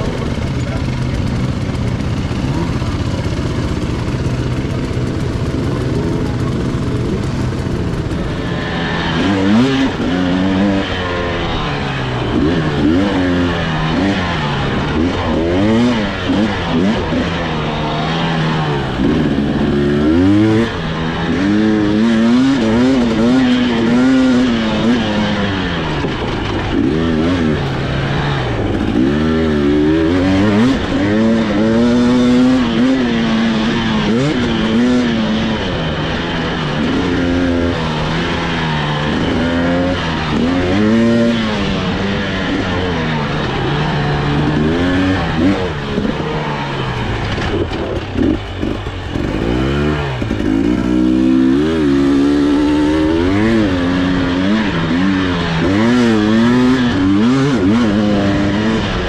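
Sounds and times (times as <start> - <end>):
two-stroke dirt bike engine revving: 0.0 - 59.0.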